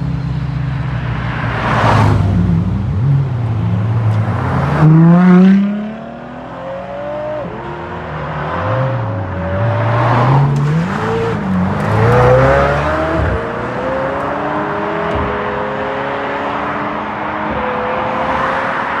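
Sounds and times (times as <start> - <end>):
car engines accelerating: 0.0 - 19.0.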